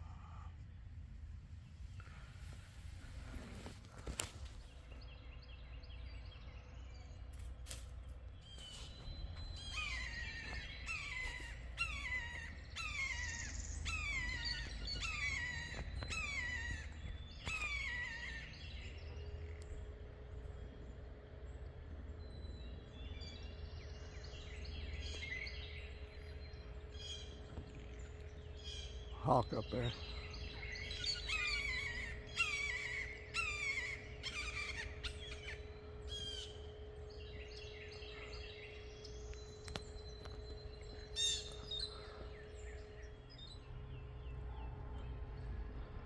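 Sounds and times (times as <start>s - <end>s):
steady low machinery hum: 0.0s - 46.0s.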